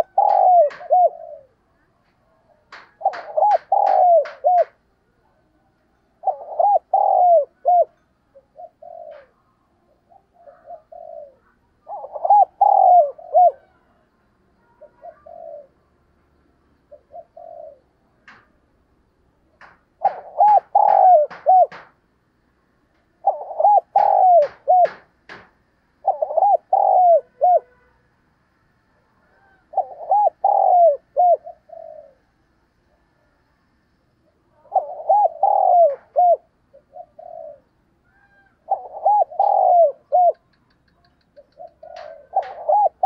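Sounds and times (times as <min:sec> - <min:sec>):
dove cooing: 0:00.0 - 0:04.8, 0:06.2 - 0:14.0, 0:14.6 - 0:15.9, 0:16.9 - 0:18.5, 0:19.6 - 0:22.0, 0:23.2 - 0:28.0, 0:29.0 - 0:32.3, 0:34.3 - 0:43.0.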